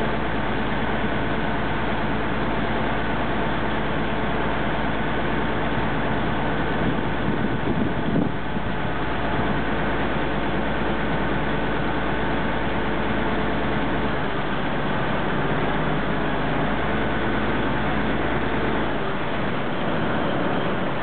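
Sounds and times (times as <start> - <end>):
boat diesel engine running: 0.0 - 21.0
water rushing along hull: 0.0 - 21.0.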